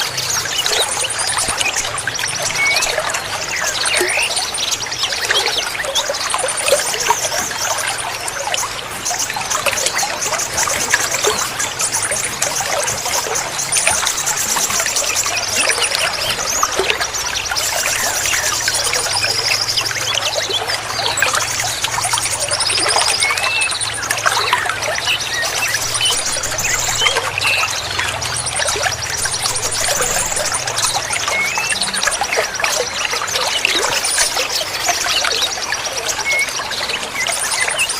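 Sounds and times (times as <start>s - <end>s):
small birds chirping: 0.0s - 37.9s
water trickling and splashing: 0.0s - 37.9s.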